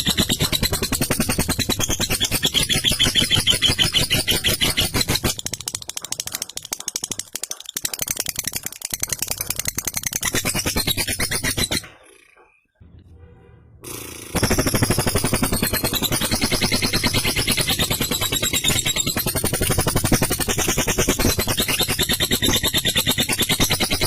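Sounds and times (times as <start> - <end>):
lovebird rattling chatter: 0.0 - 12.6, 14.2 - 24.0.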